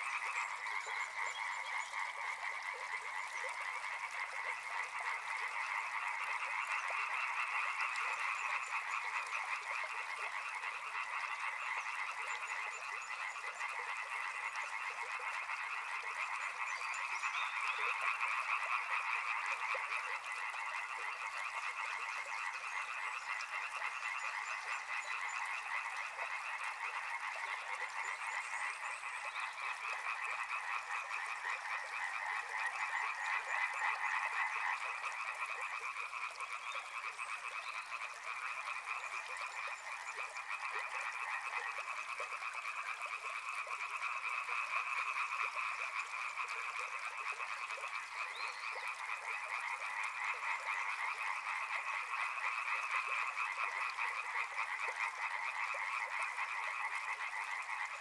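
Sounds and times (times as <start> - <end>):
frogs chorus: 0.0 - 58.0.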